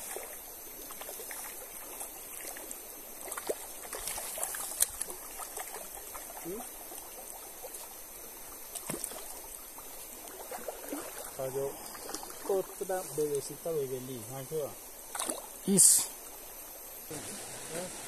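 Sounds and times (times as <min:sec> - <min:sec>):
small ticks and splashes: 0:00.0 - 0:17.9
river water running: 0:00.0 - 0:18.0.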